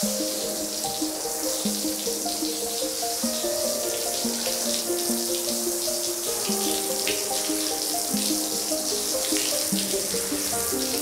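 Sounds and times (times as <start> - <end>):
calm background music: 0.0 - 11.0
water sprinkling from watering can: 0.0 - 11.0.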